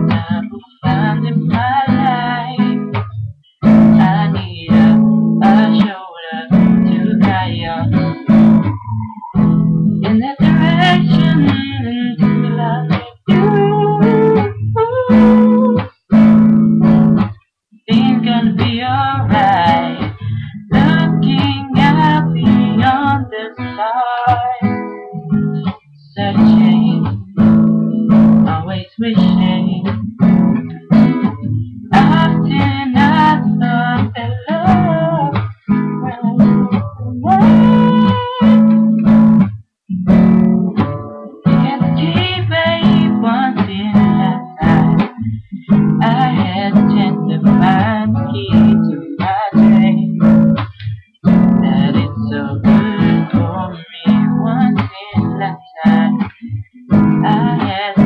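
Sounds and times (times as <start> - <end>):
acoustic guitar strumming chords: 0.0 - 58.0.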